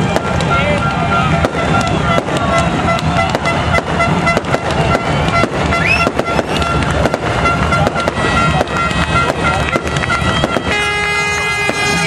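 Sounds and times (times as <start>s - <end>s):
race car engines burbling: 0.0s - 12.0s
engine cracks and pops: 0.2s - 10.8s.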